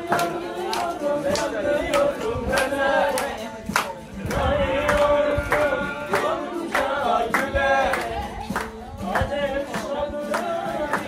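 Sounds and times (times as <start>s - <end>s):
group singing: 0.0s - 11.0s.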